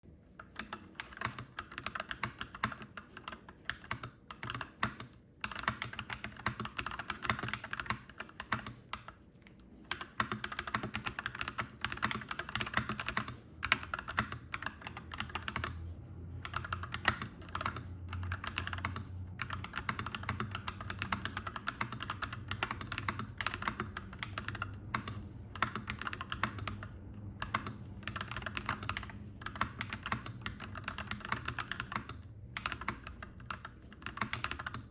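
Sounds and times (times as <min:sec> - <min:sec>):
mechanical keyboard typing: 0:00.4 - 0:09.2, 0:09.8 - 0:34.9.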